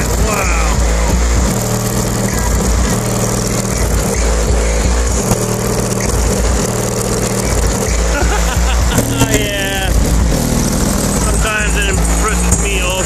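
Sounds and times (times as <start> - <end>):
deep bass-heavy music from subwoofers: 0.0 - 13.0.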